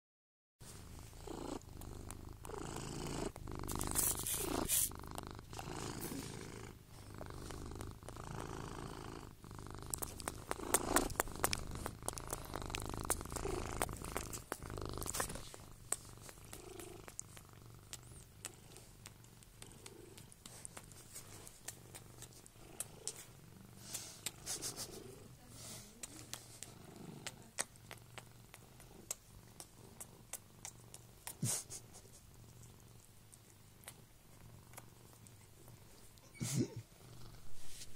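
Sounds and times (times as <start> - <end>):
cat purring: 0.6 - 37.9.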